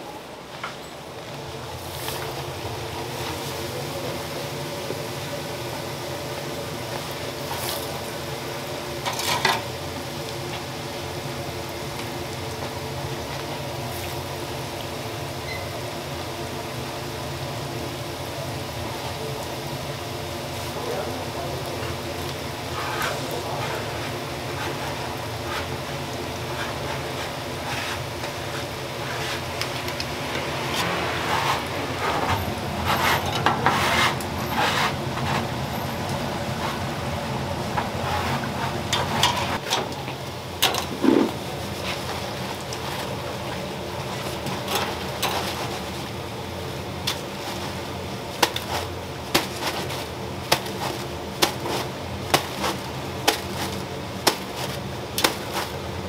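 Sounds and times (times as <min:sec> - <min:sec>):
doughnuts sizzling in hot oil: 0:01.1 - 0:56.0.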